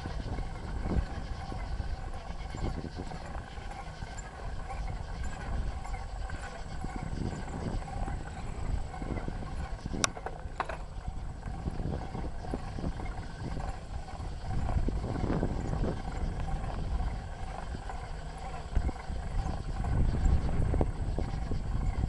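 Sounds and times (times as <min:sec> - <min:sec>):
bicycle rattling over a trail: 0:00.0 - 0:22.0.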